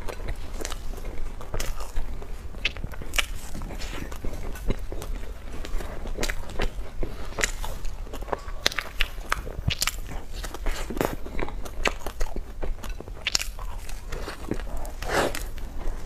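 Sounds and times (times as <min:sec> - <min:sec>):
biting and chewing pastry: 0:00.0 - 0:16.0.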